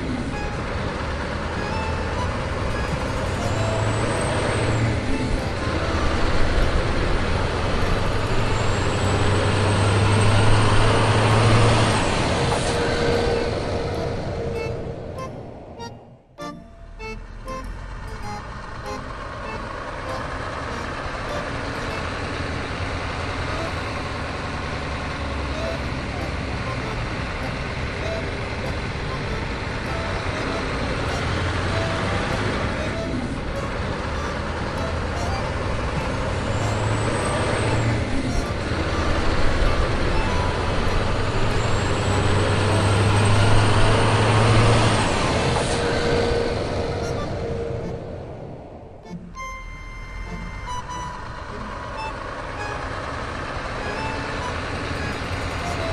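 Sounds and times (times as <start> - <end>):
short tune notes: 0.0 - 48.1, 49.0 - 55.9
truck engine rumble: 0.0 - 55.9.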